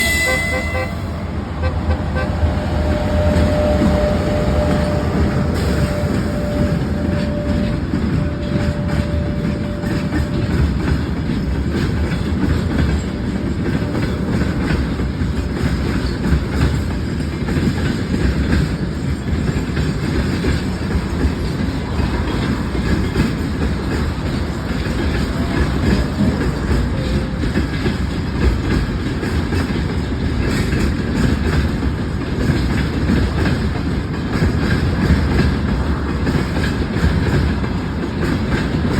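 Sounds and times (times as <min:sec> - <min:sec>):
freight wagons rumbling: 0:00.0 - 0:38.9
wheels clacking over rail joints: 0:00.0 - 0:38.9.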